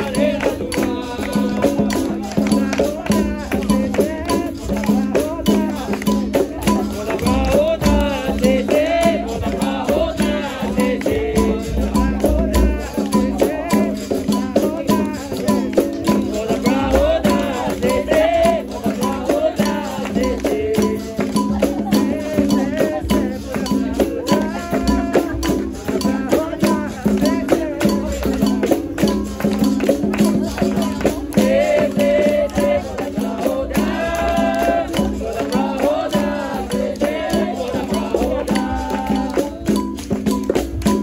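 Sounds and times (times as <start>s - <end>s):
berimbau struck in rhythm: 0.0s - 41.0s
percussion: 0.0s - 41.0s
rattling caxixi shaker: 0.0s - 41.0s
voices singing: 0.0s - 41.0s.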